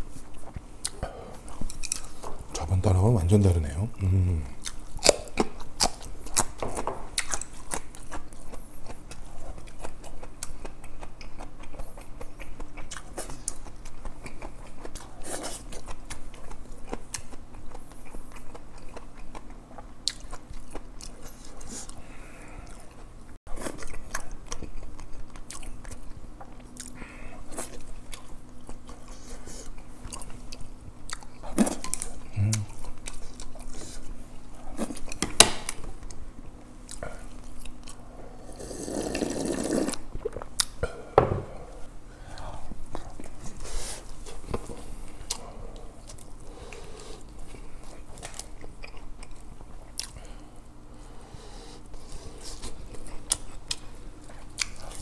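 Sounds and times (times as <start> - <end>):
person chewing and crunching: 0.0 - 2.8, 3.4 - 41.0, 41.8 - 51.0, 51.8 - 55.0.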